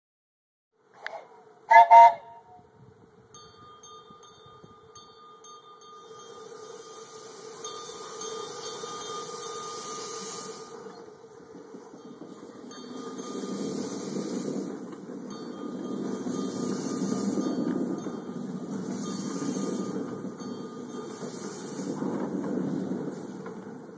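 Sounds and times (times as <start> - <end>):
steam locomotive hissing: 1.0 - 2.6, 3.2 - 23.9
small wheels rumbling on rails: 1.7 - 23.9.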